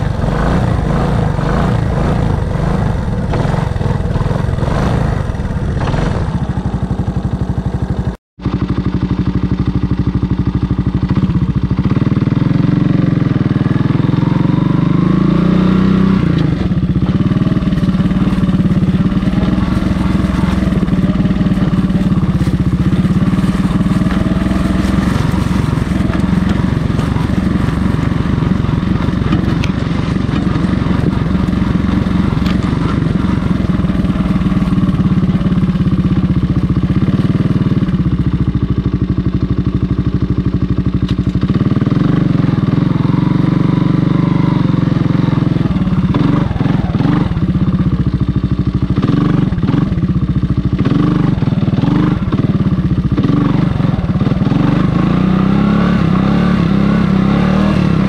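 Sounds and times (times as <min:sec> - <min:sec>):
engine running and revving: 0:00.0 - 0:58.0.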